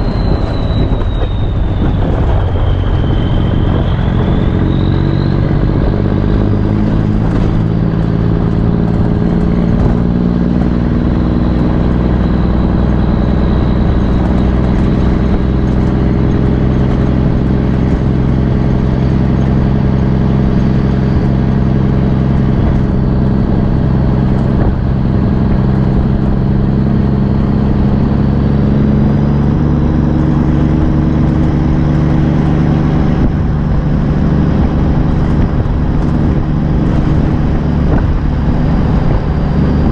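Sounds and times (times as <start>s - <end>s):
loud diesel truck engine: 0.0s - 39.9s.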